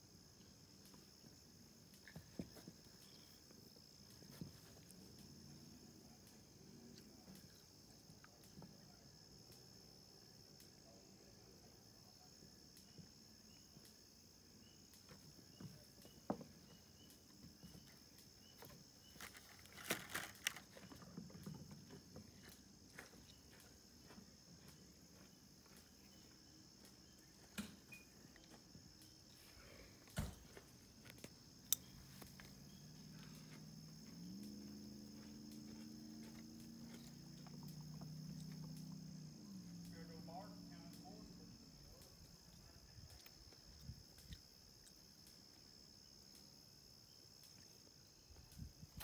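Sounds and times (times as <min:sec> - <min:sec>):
faint low hum: 0:00.0 - 0:46.5
insect chorus: 0:00.0 - 0:49.0.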